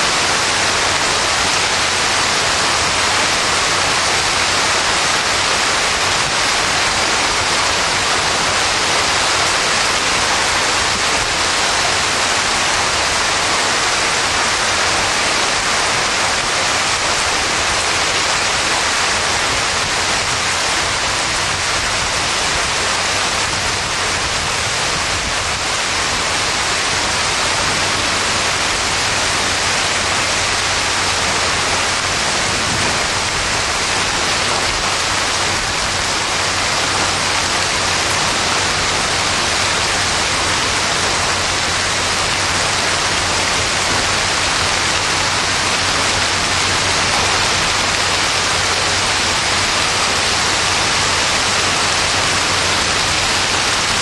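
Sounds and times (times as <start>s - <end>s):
heavy rain and hail: 0.0s - 54.0s.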